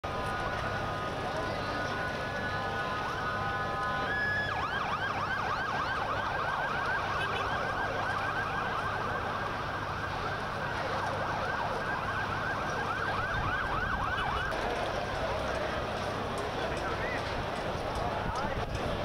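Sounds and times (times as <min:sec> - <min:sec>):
street background noise: 0:00.0 - 0:19.0
ambulance siren yelping: 0:00.1 - 0:15.9.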